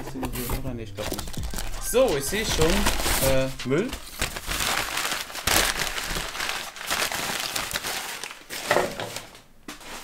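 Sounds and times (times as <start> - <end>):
packing paper crinkling: 0.0 - 10.0.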